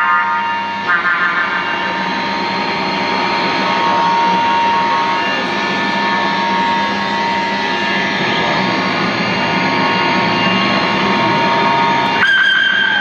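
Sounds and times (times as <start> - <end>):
high held tone: 0.0 - 13.0
noise drone music: 0.0 - 13.0.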